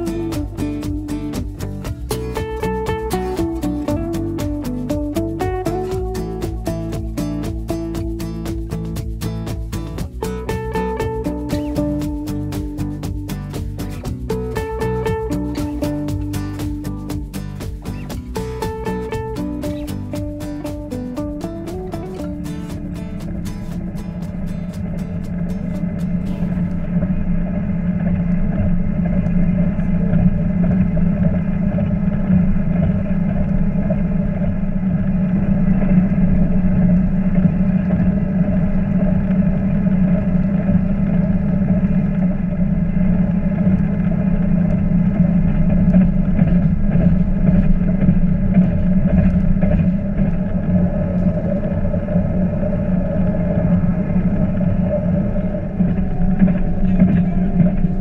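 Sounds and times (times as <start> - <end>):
train engine drone: 0.0 - 58.0
wheels rumbling on track: 0.0 - 58.0.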